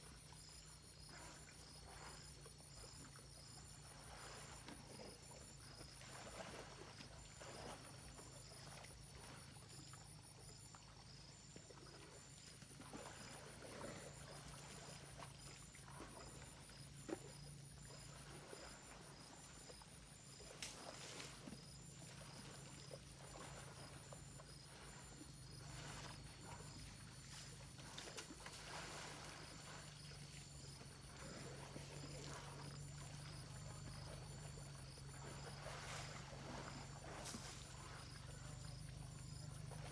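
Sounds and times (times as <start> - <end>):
insects chirring: 7.0 - 39.9.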